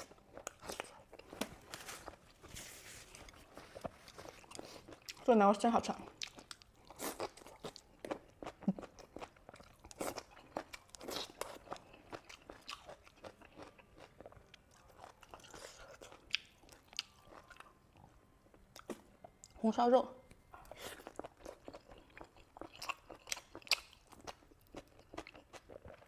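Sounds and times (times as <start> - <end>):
person chewing food: 0.0 - 5.3, 6.0 - 19.6, 20.3 - 26.0.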